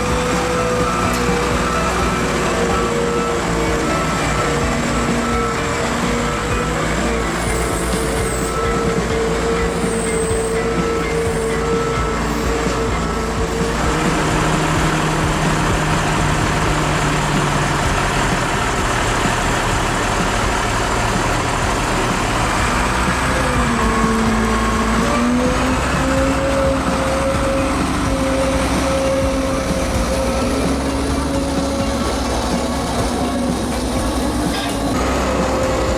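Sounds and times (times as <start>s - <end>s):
snow groomer engine droning: 0.0s - 35.9s.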